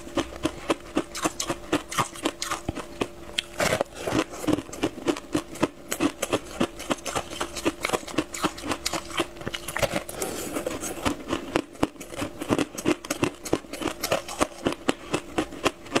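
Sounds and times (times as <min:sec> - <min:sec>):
crunching and chewing snack: 0:00.0 - 0:16.0.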